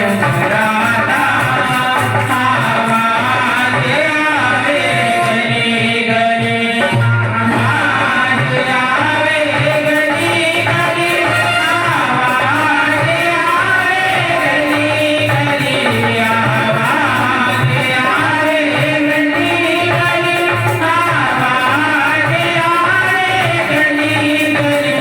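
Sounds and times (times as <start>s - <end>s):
person singing devotional song: 0.0s - 25.0s.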